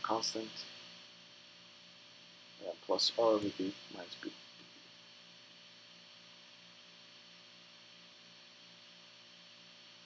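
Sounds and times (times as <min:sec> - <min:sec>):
faint electrical hum with hiss: 0:00.0 - 0:10.0.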